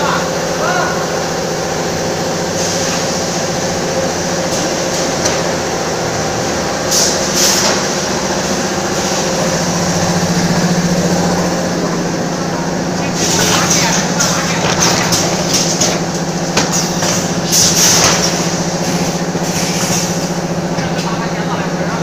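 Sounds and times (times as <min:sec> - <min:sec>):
bagging machine humming: 0:00.0 - 0:22.0.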